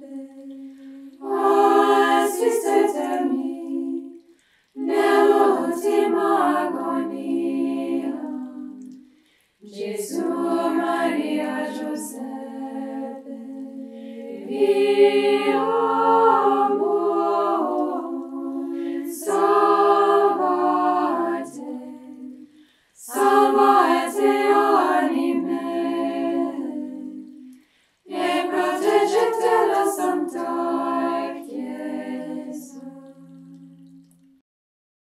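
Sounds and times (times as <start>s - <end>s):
women's choir singing a hymn: 0.0s - 4.2s, 4.8s - 8.9s, 9.6s - 27.5s, 28.1s - 33.6s.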